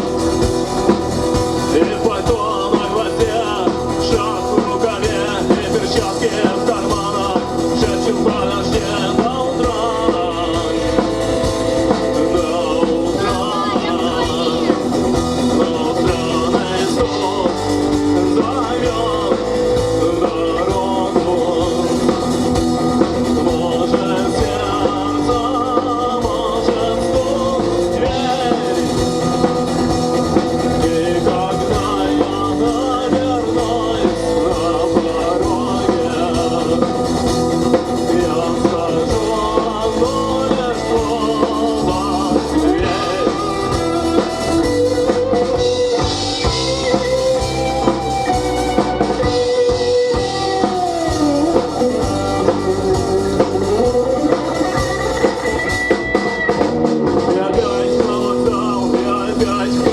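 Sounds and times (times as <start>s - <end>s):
rock band playing live: 0.0s - 59.9s
person singing: 1.6s - 59.9s.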